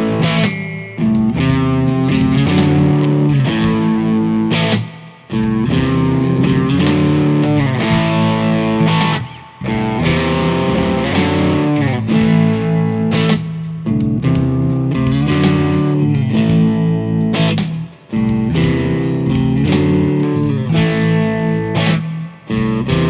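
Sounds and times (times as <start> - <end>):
overdriven electric guitar blues riff: 0.0 - 23.0.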